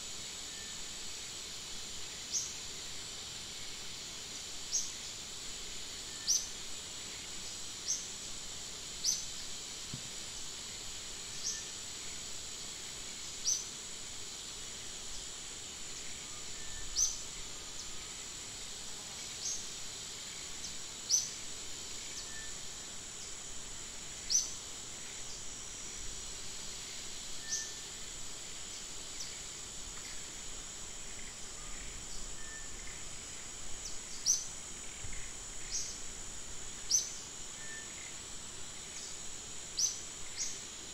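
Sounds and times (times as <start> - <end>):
high-pitched insect drone: 0.1 - 40.9.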